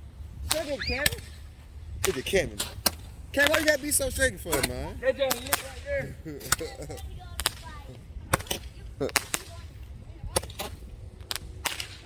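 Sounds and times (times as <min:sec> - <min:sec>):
firecrackers popping: 0:00.0 - 0:12.0.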